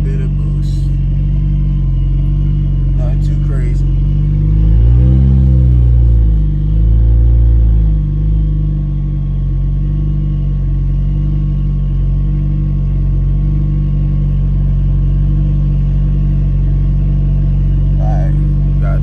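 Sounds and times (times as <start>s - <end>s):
car engine droning while cruising: 0.0s - 19.0s.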